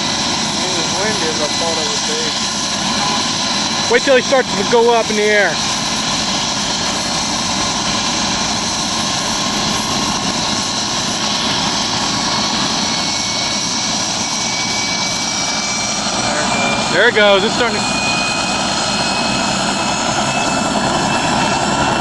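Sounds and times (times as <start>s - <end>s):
helicopter turbine and rotors: 0.0s - 22.0s.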